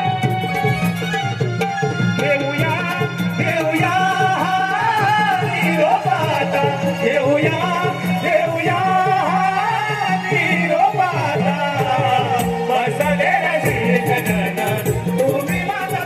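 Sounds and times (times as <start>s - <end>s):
accompaniment with steady beat: 0.0s - 16.0s
person singing ornamented melody: 2.2s - 16.0s.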